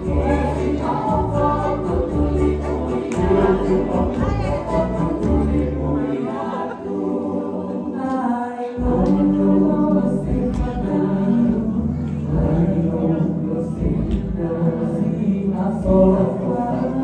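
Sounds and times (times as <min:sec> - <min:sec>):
acoustic guitar: 0:00.0 - 0:17.0
group singing in harmony: 0:00.0 - 0:17.0.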